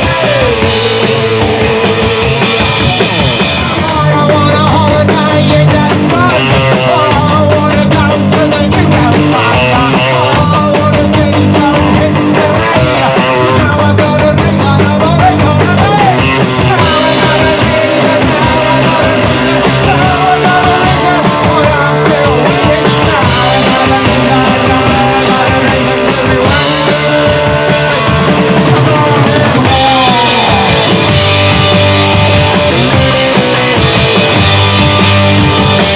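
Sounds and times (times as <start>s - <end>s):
loud punk rock music: 0.0s - 35.9s.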